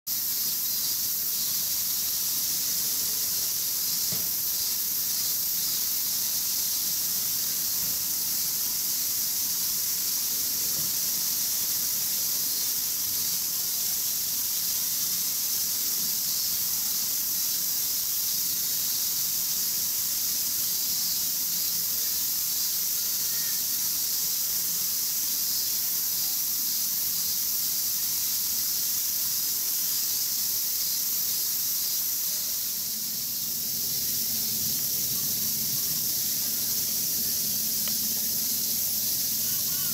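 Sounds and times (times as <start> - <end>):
cicadas chorus: 0.1 - 39.9.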